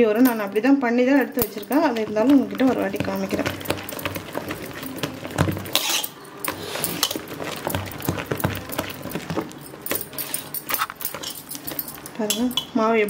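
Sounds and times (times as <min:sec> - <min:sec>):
bangles clinking: 0:00.2 - 0:12.8.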